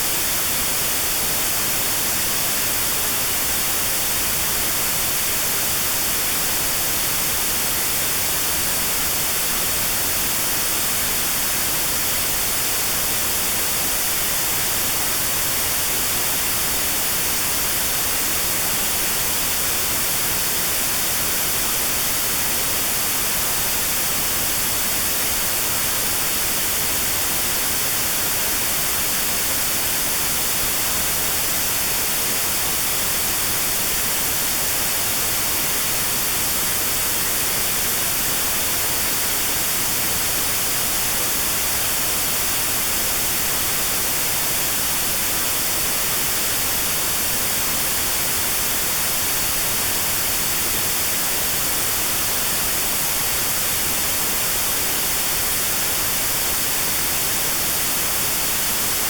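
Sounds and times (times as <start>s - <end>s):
notched white noise hiss: 0.0s - 59.0s.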